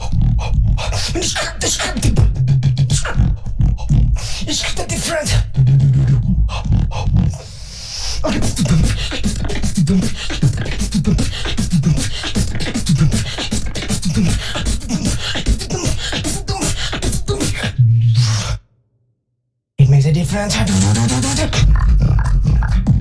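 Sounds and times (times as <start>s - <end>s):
person beatboxing: 0.0s - 18.6s, 19.8s - 23.0s.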